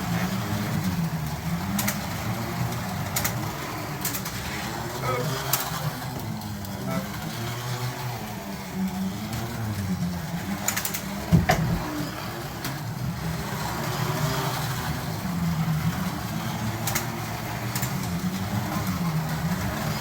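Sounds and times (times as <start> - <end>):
slot car motors whining: 0.0 - 20.0.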